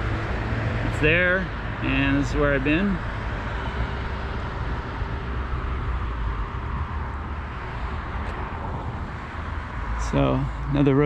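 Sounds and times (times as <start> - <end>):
cars passing on busy street: 0.0 - 11.0.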